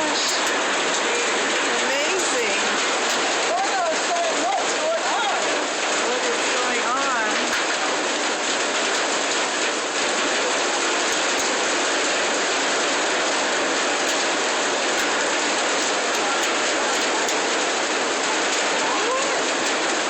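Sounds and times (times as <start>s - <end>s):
hail falling: 0.0s - 20.0s.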